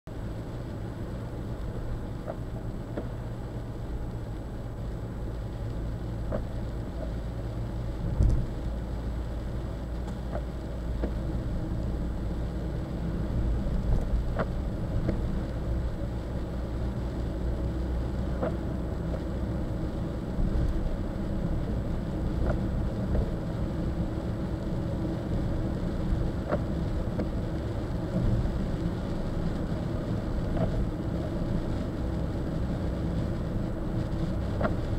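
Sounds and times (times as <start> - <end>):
road and engine rumble: 0.0 - 34.9
light ticks: 1.5 - 3.3, 5.5 - 20.8, 21.7 - 23.6, 24.2 - 31.8, 32.4 - 34.9.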